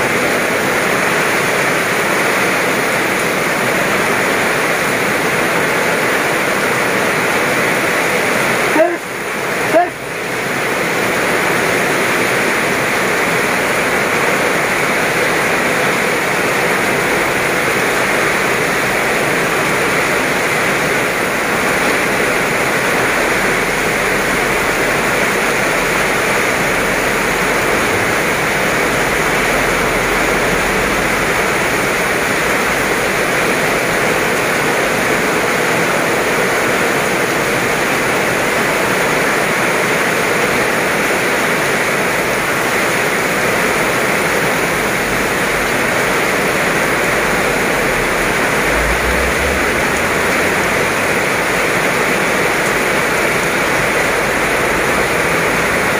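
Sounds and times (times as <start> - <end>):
heavy rain hissing: 0.0 - 55.9.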